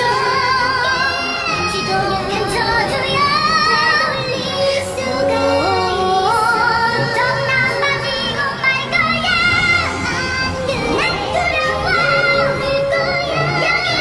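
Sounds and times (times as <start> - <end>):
women singing duet: 0.0 - 14.0.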